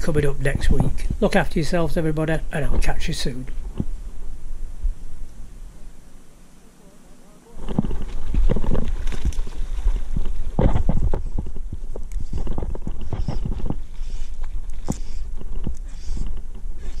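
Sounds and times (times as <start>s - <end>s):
wind buffeting microphone: 0.0s - 5.8s, 7.6s - 17.0s.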